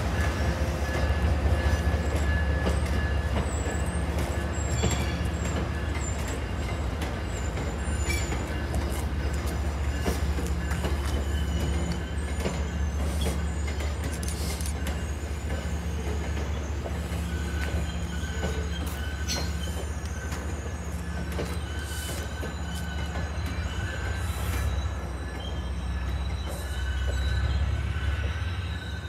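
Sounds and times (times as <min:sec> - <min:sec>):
train rolling rumble: 0:00.0 - 0:29.0
train wheels squealing: 0:00.0 - 0:29.0.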